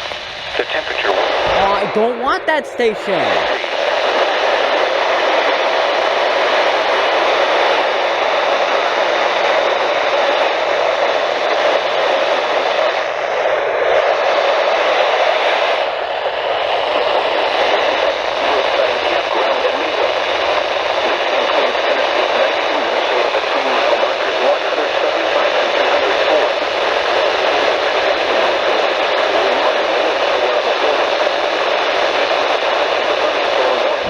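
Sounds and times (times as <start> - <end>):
radio static hiss: 0.0 - 13.6, 16.7 - 34.0.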